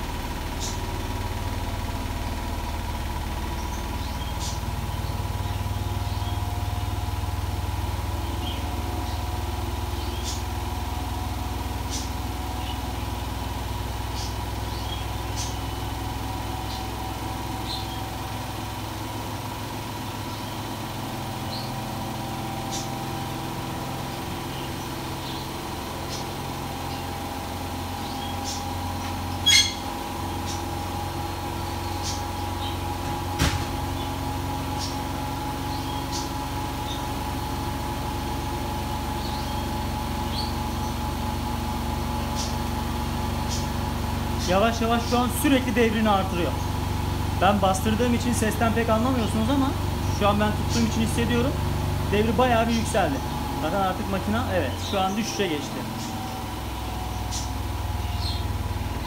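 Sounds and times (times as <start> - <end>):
washing machine spinning: 0.0 - 59.0.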